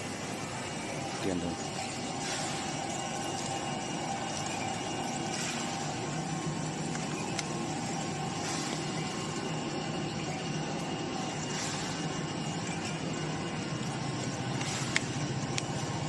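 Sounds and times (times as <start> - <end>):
packing machine humming: 0.0 - 16.0.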